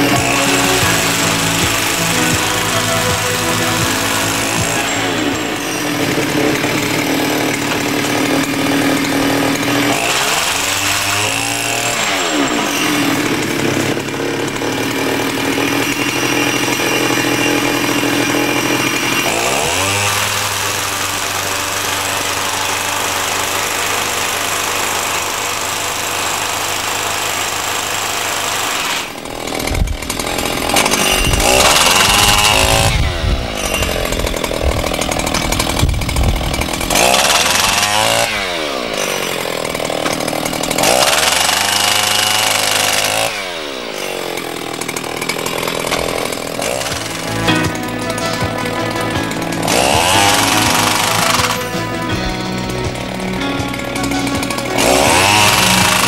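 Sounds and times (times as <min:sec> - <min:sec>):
impact wrench running: 0:00.0 - 0:56.0.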